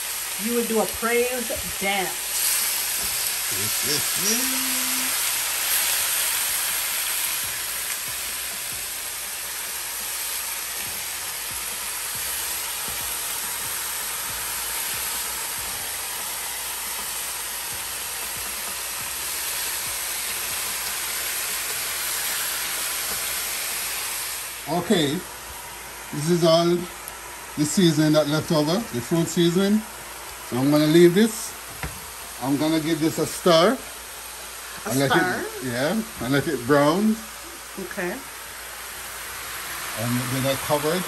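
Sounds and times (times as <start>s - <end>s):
meat sizzling in oil: 0.0s - 41.0s.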